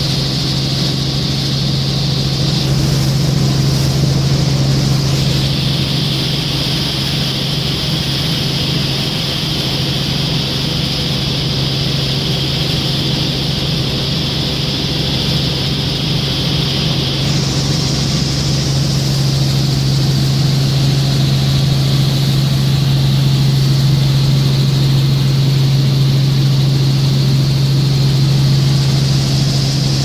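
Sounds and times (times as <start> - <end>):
helicopter cabin drone: 0.0 - 30.0.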